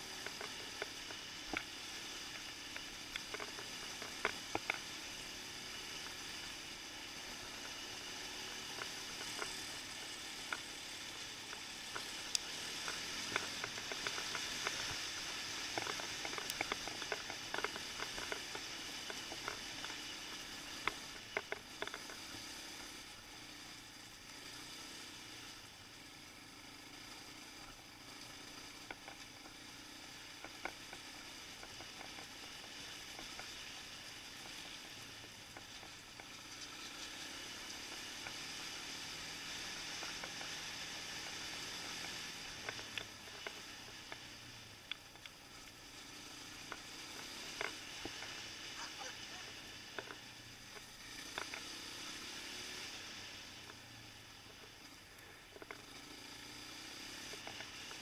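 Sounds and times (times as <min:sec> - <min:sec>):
faint quad engine: 0:00.0 - 0:58.0
gravel ticks: 0:00.0 - 0:58.0
steady riding hiss: 0:00.0 - 0:58.0.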